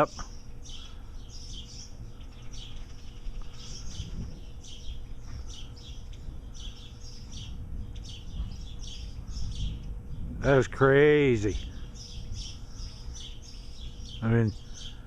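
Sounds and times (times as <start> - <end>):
small birds chirping: 0.0 - 15.0
steady low rumble: 0.2 - 15.0.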